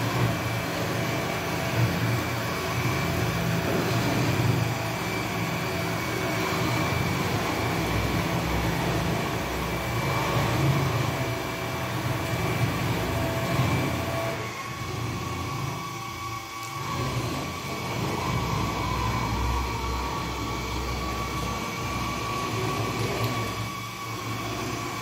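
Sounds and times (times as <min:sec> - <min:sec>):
robot vacuum cleaner whirring: 0:00.0 - 0:25.0.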